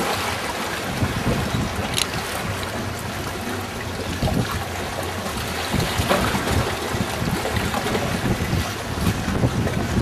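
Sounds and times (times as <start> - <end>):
wind buffeting microphone: 0.7 - 10.0.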